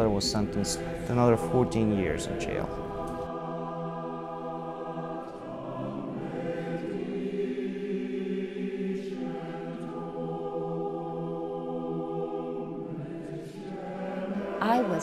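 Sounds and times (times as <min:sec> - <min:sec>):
choir singing long-held chords: 0:00.0 - 0:15.0.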